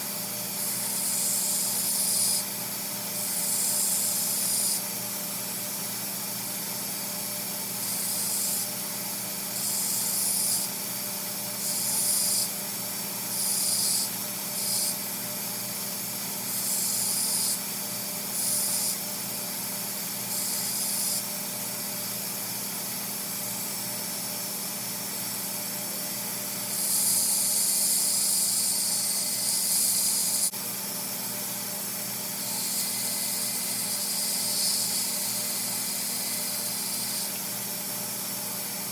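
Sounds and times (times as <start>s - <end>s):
knife grinding hiss: 0.0s - 30.5s, 31.4s - 38.9s
belt grinder running: 0.0s - 38.9s.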